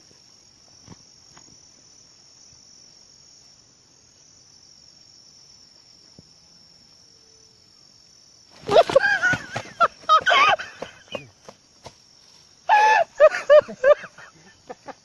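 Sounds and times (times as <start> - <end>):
insect trill: 0.0 - 15.0.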